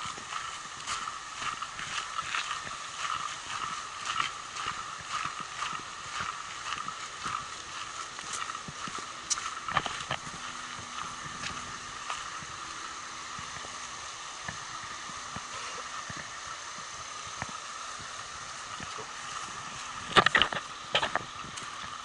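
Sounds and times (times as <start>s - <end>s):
creek rushing: 0.0s - 22.0s.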